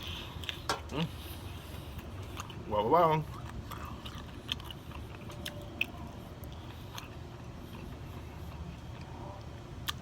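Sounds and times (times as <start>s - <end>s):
person chewing and smacking: 0.0s - 10.0s.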